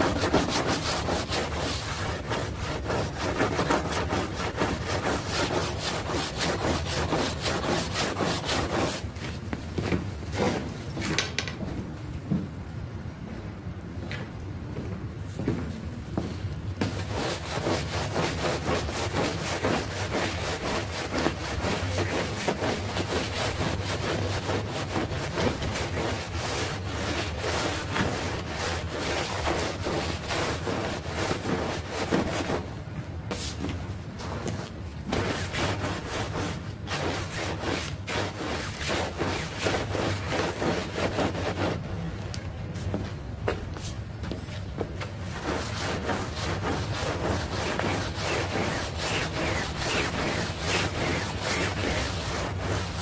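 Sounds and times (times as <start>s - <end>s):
broom scrubbing wet rug: 0.0s - 10.8s, 16.8s - 41.9s, 45.3s - 53.0s.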